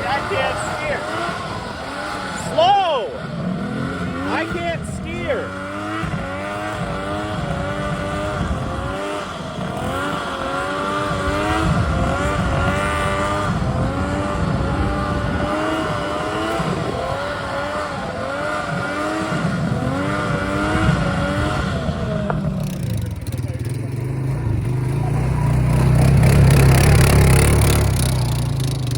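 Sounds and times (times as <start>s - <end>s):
vehicle engine running at high revs: 0.0s - 28.9s.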